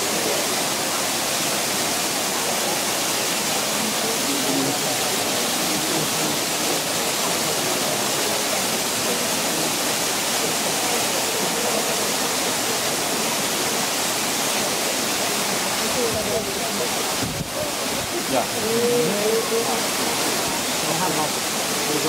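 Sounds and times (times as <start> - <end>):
fountain water splashing: 0.0 - 22.0.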